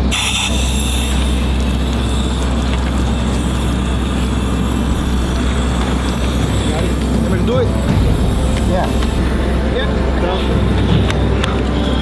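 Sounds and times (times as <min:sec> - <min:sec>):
steady rumbling noise: 0:00.0 - 0:12.0.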